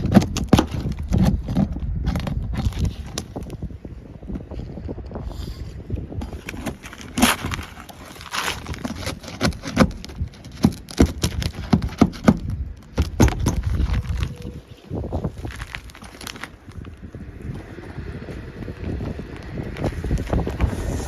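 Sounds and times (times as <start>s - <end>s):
knocks and scrapes on shingles: 0.0s - 3.7s, 4.4s - 14.6s, 15.2s - 17.7s, 18.6s - 21.0s
wind rumbling on microphone: 0.0s - 21.0s.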